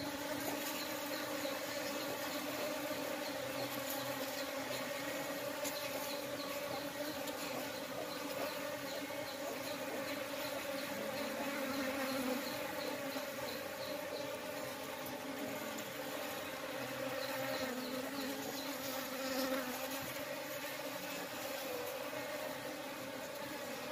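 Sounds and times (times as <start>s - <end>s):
bees buzzing: 0.0s - 23.9s.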